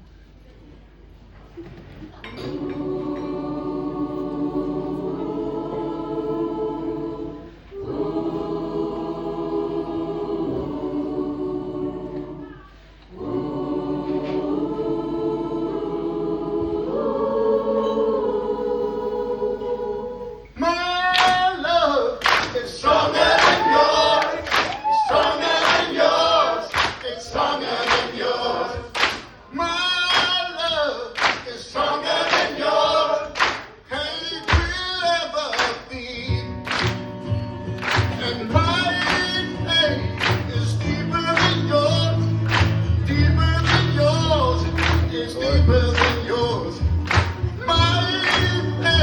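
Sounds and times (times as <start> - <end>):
mixed choir singing: 2.2 - 49.0.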